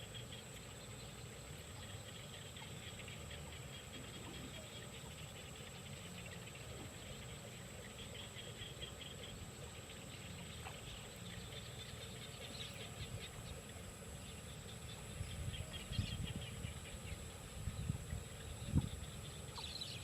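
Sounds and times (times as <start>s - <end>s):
faint high whine: 0.0s - 20.0s
small birds chirping: 0.1s - 20.0s.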